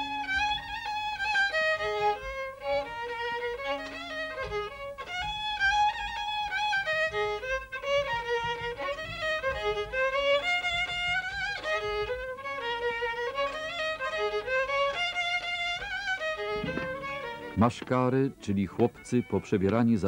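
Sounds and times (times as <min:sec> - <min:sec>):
faint low accompaniment: 0:00.0 - 0:20.0
violin playing folk melody: 0:00.0 - 0:20.0.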